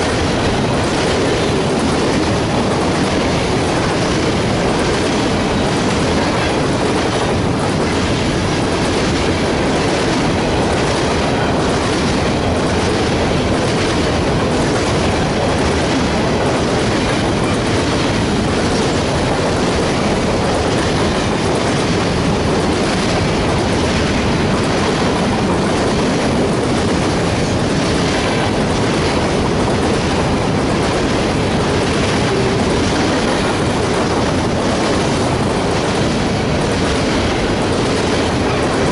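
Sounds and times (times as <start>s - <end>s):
freight train wheels rumbling: 0.0s - 38.9s
wheels clacking over rail joints: 0.0s - 38.9s.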